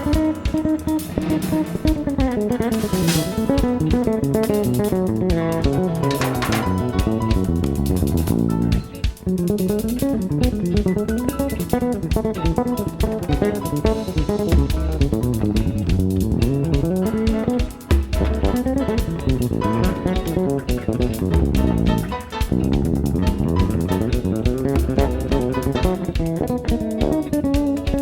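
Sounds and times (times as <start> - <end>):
bass: 0.0 - 28.0
guitar: 0.0 - 28.0
light drum beat: 0.0 - 28.0.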